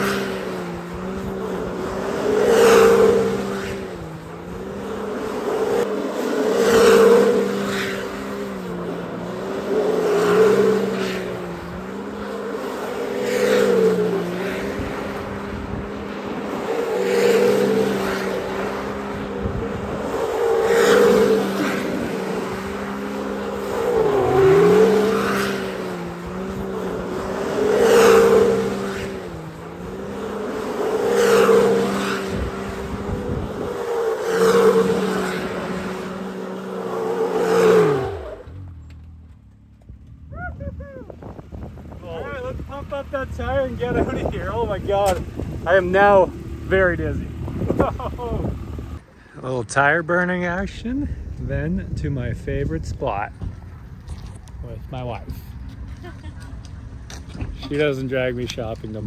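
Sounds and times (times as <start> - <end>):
engine at high revs: 0.0 - 39.1, 39.9 - 49.1
tires squealing on asphalt: 0.0 - 39.1, 39.7 - 51.0.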